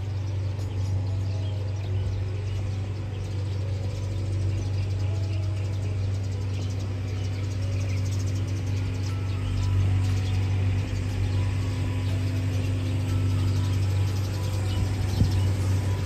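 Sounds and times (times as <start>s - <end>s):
scooter engine humming: 0.0s - 16.0s.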